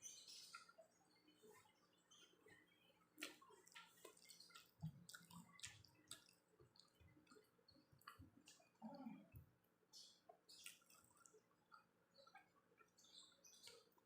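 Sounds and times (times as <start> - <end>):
mouth chewing food: 1.4 - 14.0.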